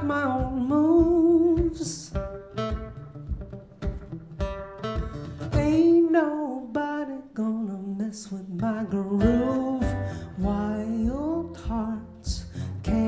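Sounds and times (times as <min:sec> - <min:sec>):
acoustic guitar strumming: 0:00.0 - 0:07.3, 0:08.4 - 0:13.0.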